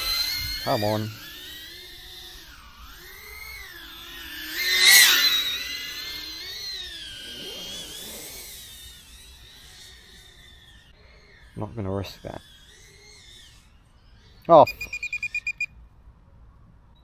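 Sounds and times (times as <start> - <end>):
drone motors whining: 0.0 - 15.7.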